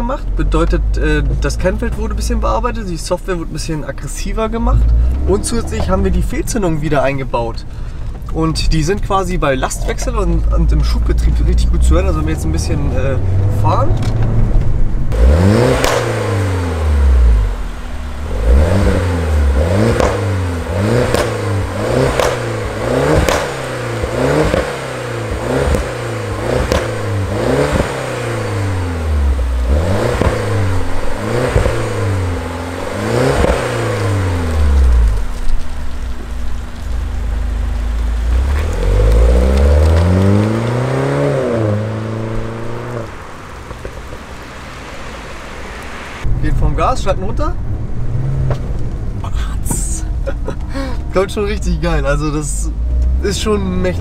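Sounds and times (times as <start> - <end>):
car engine revving: 0.0 - 54.0
exhaust pops and crackles: 0.0 - 54.0.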